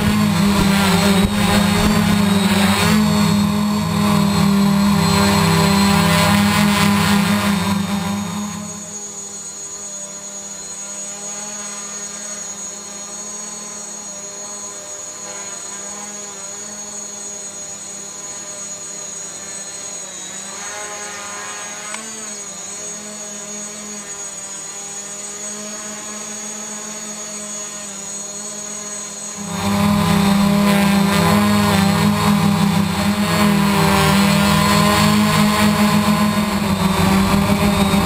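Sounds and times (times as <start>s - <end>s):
quadcopter propellers buzzing: 0.0s - 38.0s.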